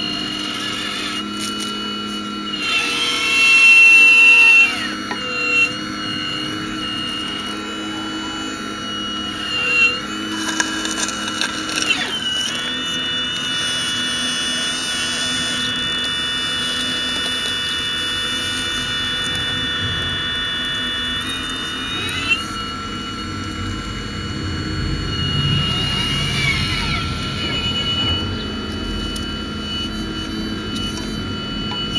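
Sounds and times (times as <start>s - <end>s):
model excavator motor whine: 0.0s - 31.9s.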